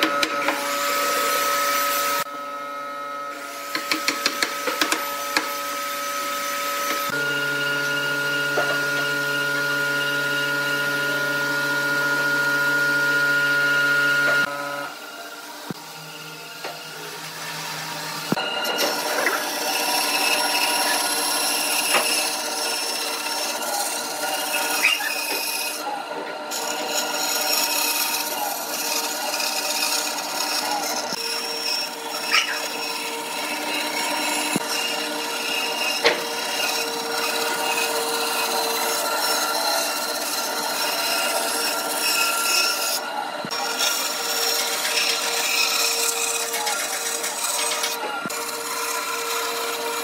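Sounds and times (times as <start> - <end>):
bandsaw cutting wood: 0.0 - 50.0.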